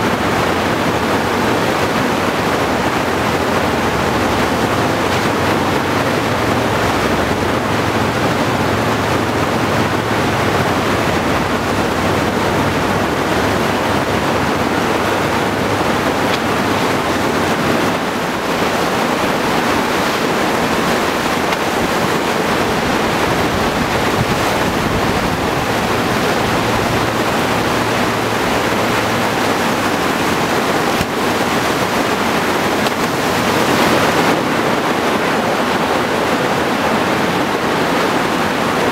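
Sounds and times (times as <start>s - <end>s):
river whitewater rushing: 0.0s - 38.9s.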